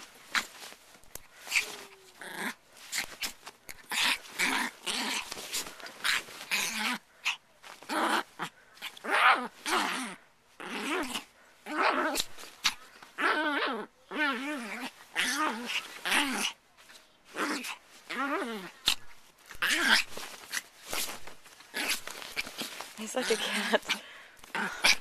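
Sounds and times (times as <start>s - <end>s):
small dog growling and snarling: 0.0s - 16.6s, 17.3s - 25.0s.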